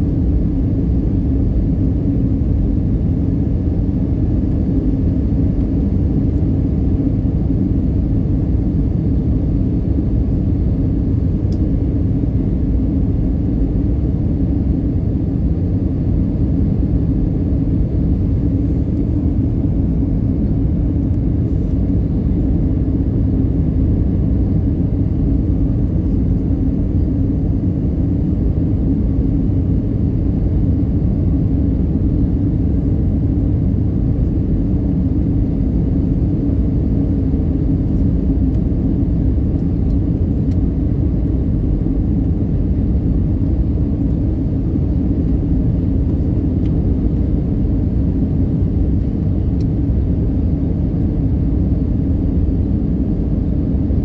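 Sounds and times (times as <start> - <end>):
airplane cabin rumble: 0.0 - 54.0
steady hum: 0.0 - 54.0.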